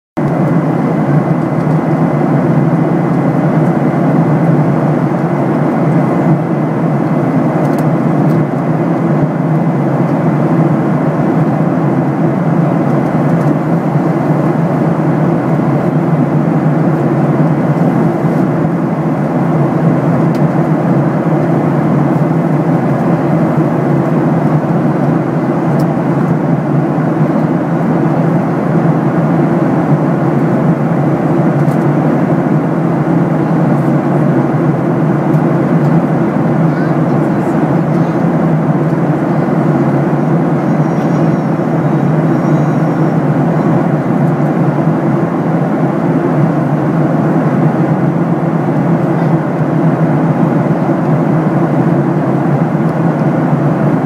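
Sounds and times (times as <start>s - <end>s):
airliner cabin drone: 0.2s - 54.0s.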